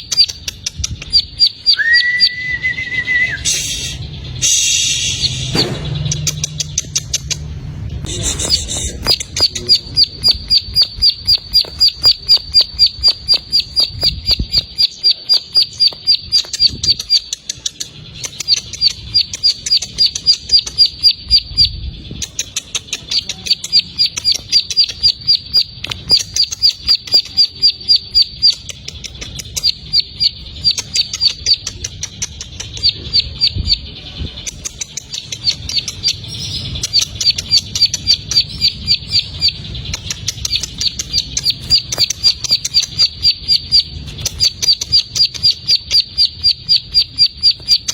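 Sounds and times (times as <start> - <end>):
bird singing sharp high chirps: 0.0 - 47.9.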